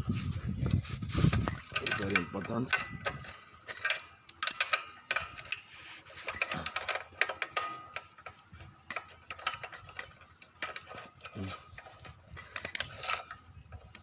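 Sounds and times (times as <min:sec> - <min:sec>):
hand tools clicking and knocking on metal: 0:00.7 - 0:14.0.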